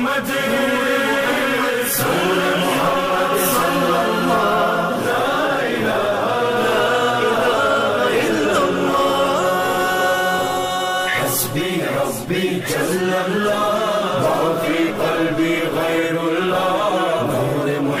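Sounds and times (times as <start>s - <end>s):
voices chanting devotional song: 0.0s - 18.0s.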